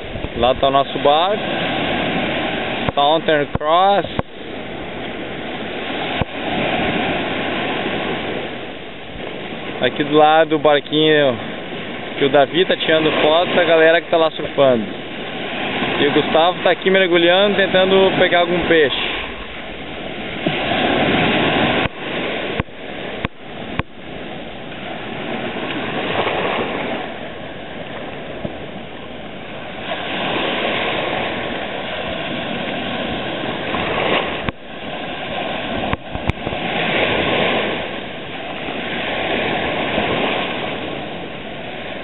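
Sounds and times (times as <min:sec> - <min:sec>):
waves washing onto beach: 0:00.0 - 0:42.0.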